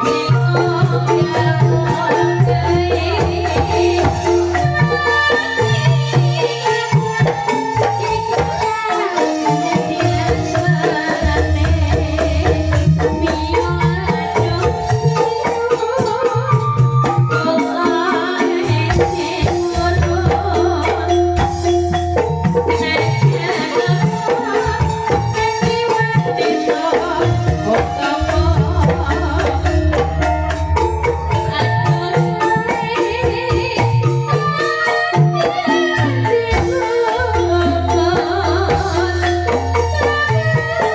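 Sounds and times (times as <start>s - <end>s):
bamboo xylophone ensemble: 0.0s - 40.9s.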